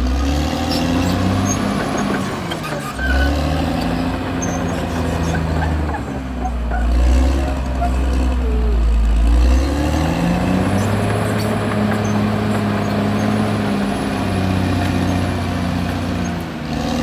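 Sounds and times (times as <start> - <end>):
bulldozer diesel engine working: 0.0 - 17.0.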